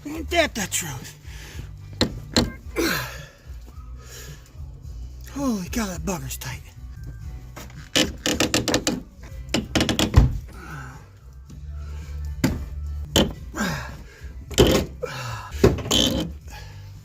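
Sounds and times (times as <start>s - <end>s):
song playing in background: 0.0s - 17.0s.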